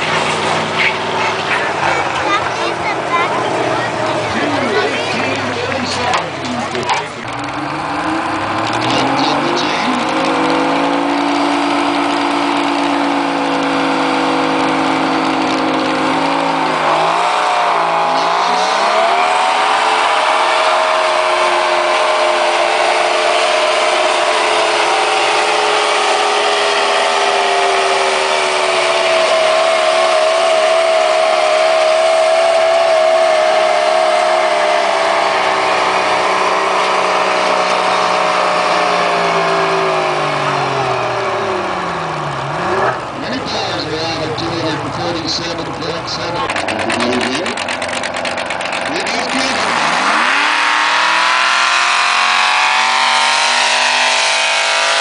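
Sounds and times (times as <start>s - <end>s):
engine revving under load: 0.0s - 55.0s.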